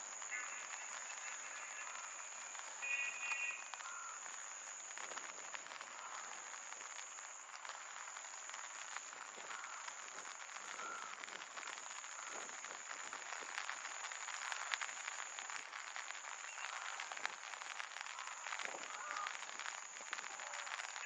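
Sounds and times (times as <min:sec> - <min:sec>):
light rain falling: 0:00.0 - 0:21.0.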